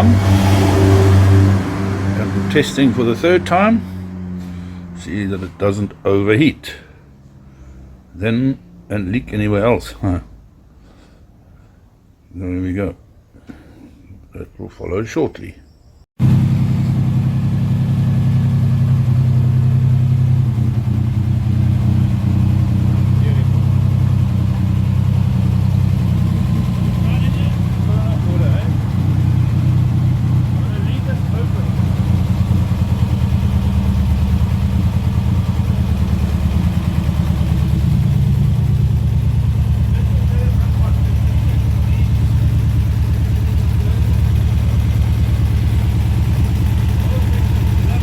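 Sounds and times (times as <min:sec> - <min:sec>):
car engine idling: 0:00.0 - 0:12.2, 0:16.2 - 0:48.0.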